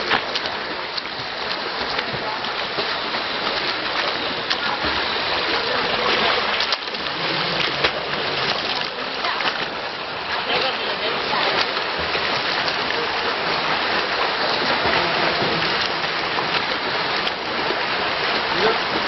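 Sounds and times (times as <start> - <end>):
churning pool water: 0.0 - 19.0
swimming stroke splashes: 0.0 - 19.0.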